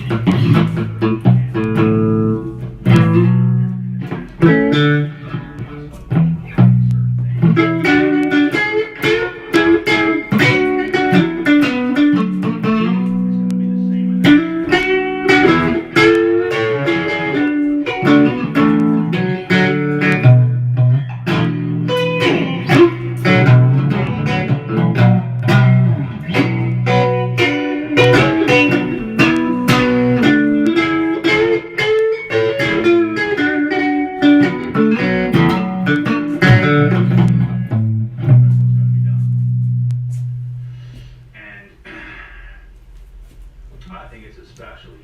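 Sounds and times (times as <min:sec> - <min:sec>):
guitar playing blues riff: 0:00.0 - 0:41.5.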